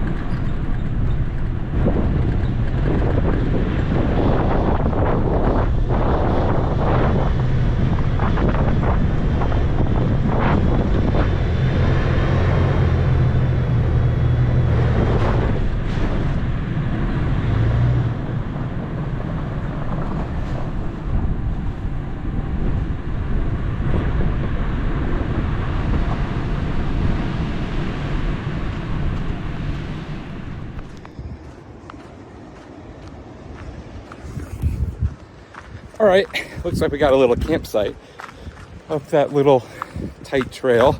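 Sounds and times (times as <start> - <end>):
truck engine droning: 0.0 - 34.4
wind buffeting microphone: 0.0 - 40.9.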